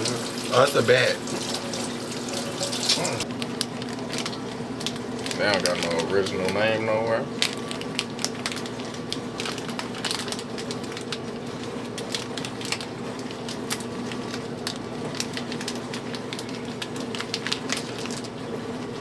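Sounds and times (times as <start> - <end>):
snack packaging crinkling: 0.1 - 19.0.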